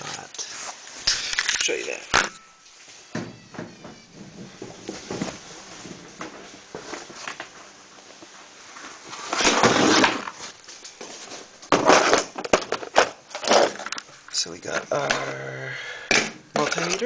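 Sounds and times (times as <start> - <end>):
rustling and clattering tools: 0.0 - 15.2.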